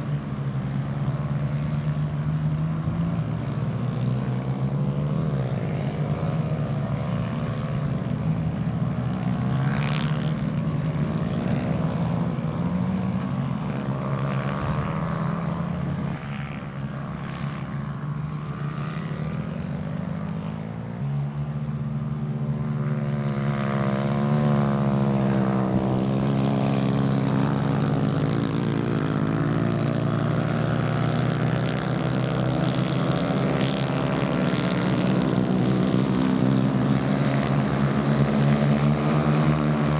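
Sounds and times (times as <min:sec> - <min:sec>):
kart engines buzzing: 0:00.0 - 0:39.9.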